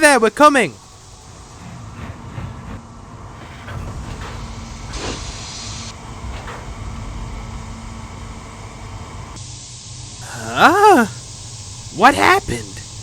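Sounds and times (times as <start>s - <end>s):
steam hissing: 0.0s - 13.0s
steam locomotive rumbling: 0.0s - 13.0s.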